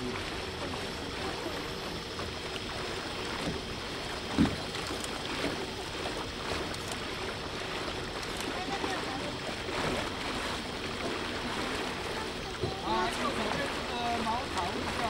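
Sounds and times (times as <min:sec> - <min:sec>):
water rushing along boat hull: 0:00.0 - 0:15.0.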